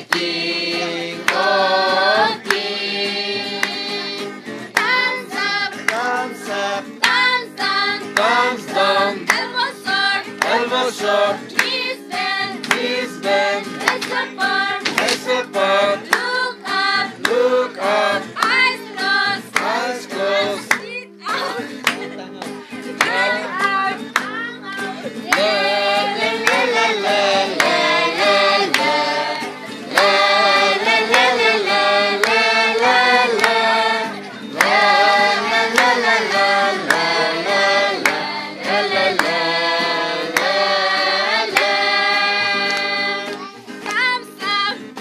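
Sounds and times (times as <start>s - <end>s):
group singing: 0.0s - 45.0s
hand claps: 0.0s - 45.0s
musical accompaniment with held notes: 0.0s - 45.0s.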